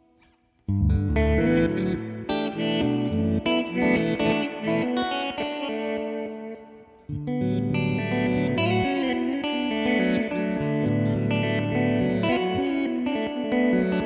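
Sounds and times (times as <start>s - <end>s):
reversed electric guitar notes: 0.7s - 14.0s.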